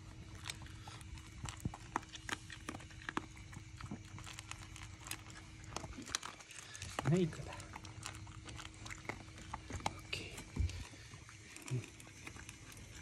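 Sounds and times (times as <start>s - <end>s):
dog crunching kibble in bowl: 0.0s - 13.0s.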